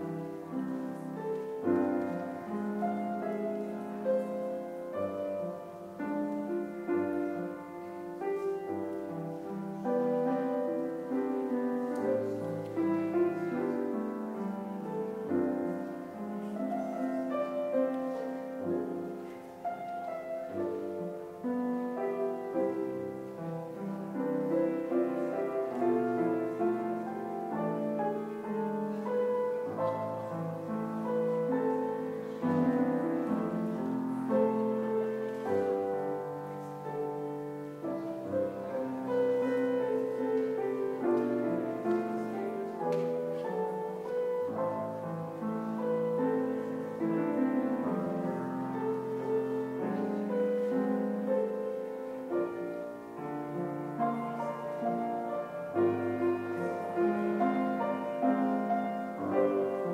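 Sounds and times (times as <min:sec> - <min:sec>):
slow piano music: 0:00.0 - 0:59.9.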